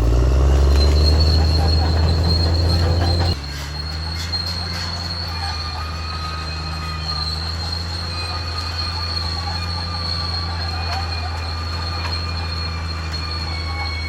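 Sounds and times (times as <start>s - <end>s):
bulldozer diesel engine running: 0.0s - 14.0s
steel tracks squealing: 0.0s - 14.0s.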